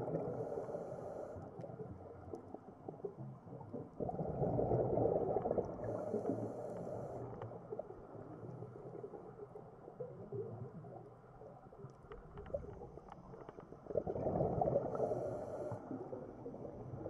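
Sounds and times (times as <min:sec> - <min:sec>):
exhaled bubbles underwater: 0:00.0 - 0:17.0.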